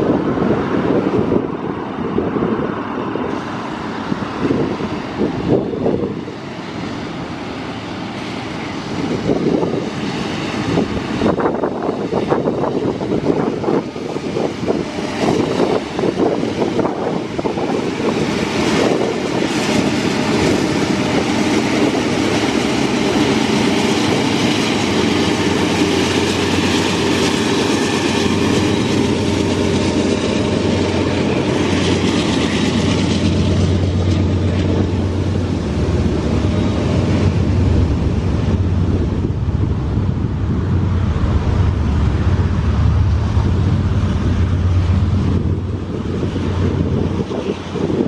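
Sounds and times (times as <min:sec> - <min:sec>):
diesel locomotives passing: 0:00.0 - 0:48.0
freight cars rolling on rails: 0:00.0 - 0:48.0.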